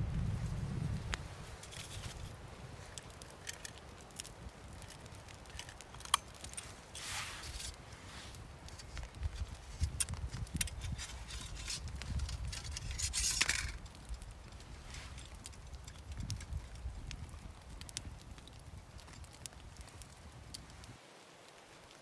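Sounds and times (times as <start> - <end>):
small clicks and crackles: 0.2 - 22.0.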